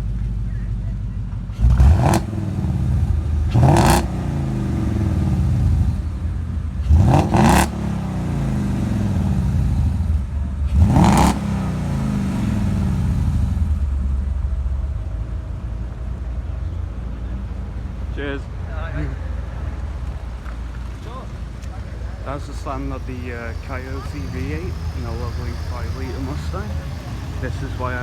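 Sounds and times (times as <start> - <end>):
car engine revving: 1.3 - 28.0.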